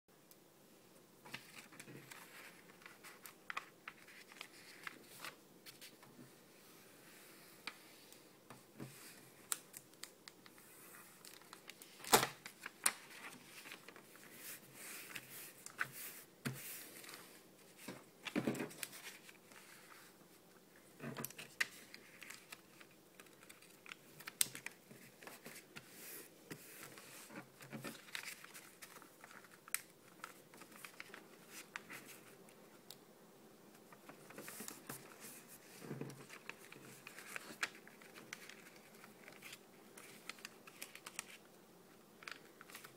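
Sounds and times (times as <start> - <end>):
paper rustling and creasing: 1.2 - 20.2, 20.9 - 33.0, 33.7 - 42.9.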